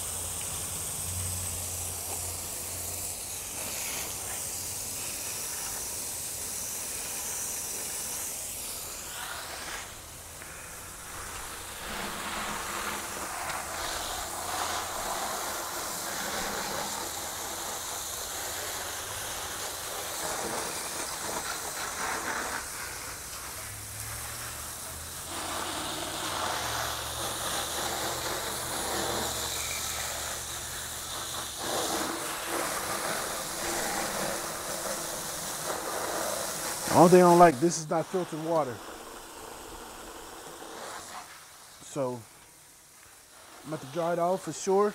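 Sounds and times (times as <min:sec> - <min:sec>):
water spraying from a hose: 0:00.0 - 0:44.9.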